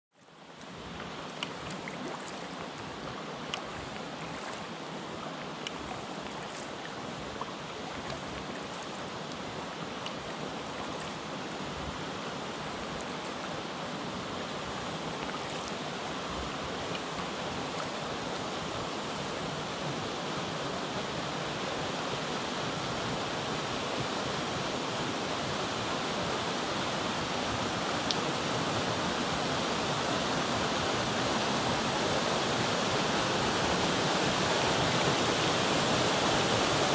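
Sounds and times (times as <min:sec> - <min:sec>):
waterfall rushing into sea: 0:00.3 - 0:36.9.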